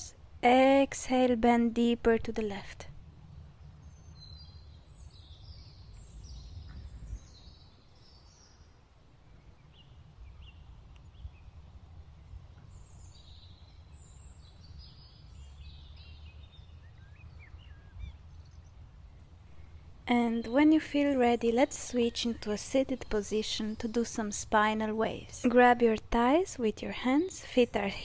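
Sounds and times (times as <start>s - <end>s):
birds chirping: 3.6s - 28.0s.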